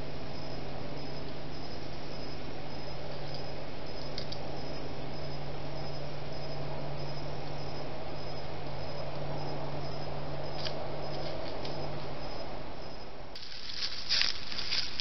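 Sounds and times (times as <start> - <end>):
crickets chirping: 0.0 - 15.0
microphone hiss and hum: 0.0 - 15.0.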